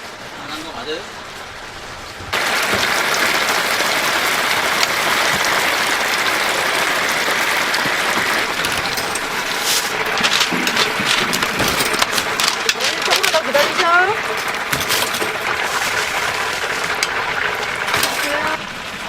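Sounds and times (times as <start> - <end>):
chicken sizzling in hot oil: 2.3 - 11.6, 12.2 - 18.6
oil popping crackles: 2.3 - 19.0.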